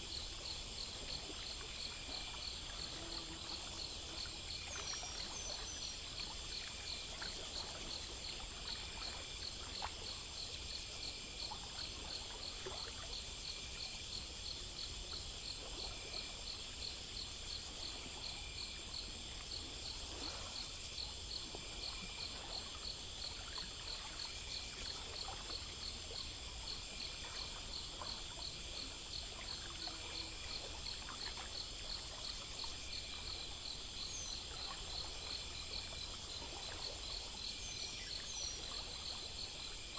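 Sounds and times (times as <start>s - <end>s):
crickets and insects chirping: 0.0s - 39.9s
faint trickle of running water: 0.0s - 39.9s.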